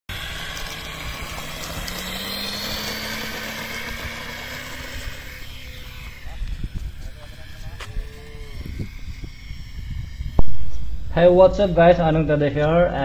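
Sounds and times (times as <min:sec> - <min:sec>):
model plane motor whining: 0:00.0 - 0:12.8.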